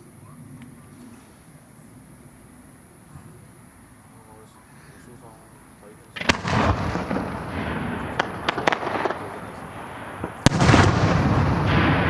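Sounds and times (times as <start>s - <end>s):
fireworks bursting: 0.0s - 12.0s
fireworks crackle and rumble: 0.0s - 12.0s.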